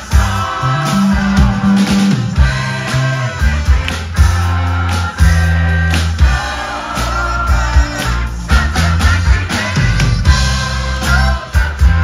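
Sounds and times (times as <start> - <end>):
bass line: 0.0 - 12.0
rock band playing: 0.0 - 12.0
voices singing: 0.0 - 12.0.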